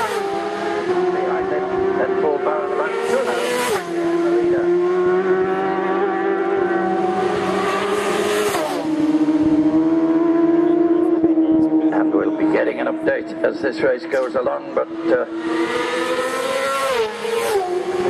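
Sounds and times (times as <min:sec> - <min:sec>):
motorcycles speeding past: 0:00.0 - 0:18.0.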